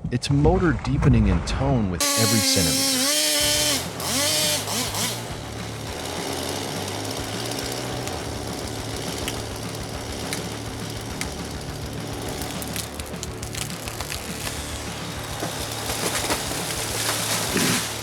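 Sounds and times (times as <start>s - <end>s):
chainsaw cutting a log: 2.0s - 18.0s.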